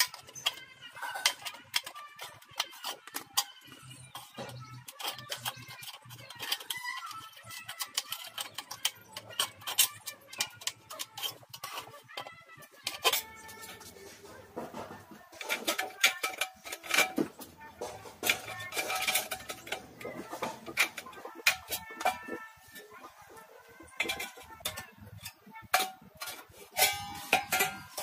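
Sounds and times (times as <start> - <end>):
tin snips cutting metal: 0.0 - 14.0, 15.3 - 28.0.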